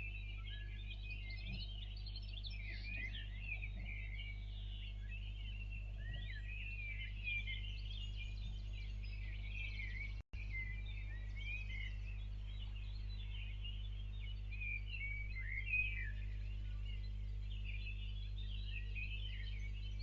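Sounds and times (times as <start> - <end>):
birds chirping and singing: 0.0 - 20.0
steady low hum: 0.0 - 20.0.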